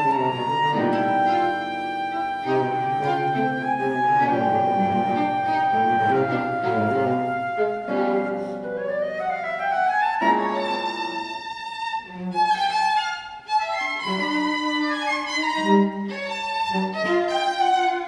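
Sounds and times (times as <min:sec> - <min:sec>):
chamber music ensemble: 0:00.0 - 0:18.0.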